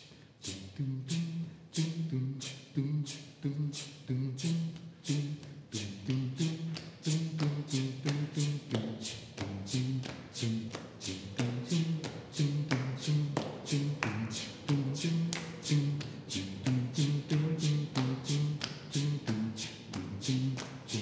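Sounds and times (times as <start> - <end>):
group singing a cappella: 0.0 - 21.0
hand clapping: 3.8 - 21.0.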